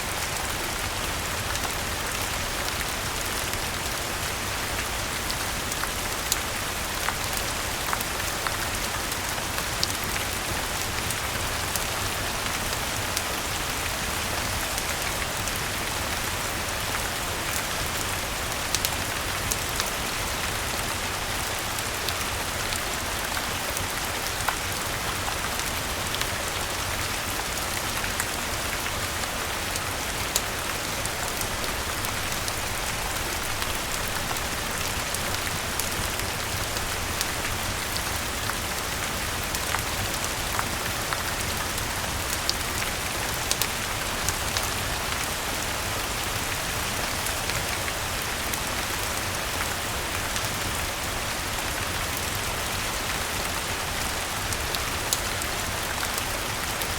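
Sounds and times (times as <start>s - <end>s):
rain falling on foliage: 0.0s - 56.9s.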